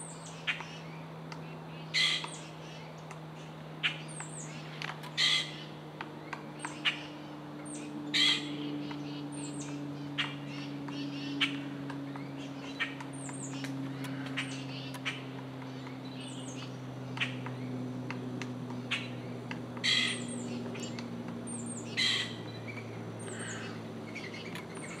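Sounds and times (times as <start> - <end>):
birds chirping: 0.0 - 25.0
harsh bird calls: 0.0 - 25.0
steady low hum: 0.0 - 25.0.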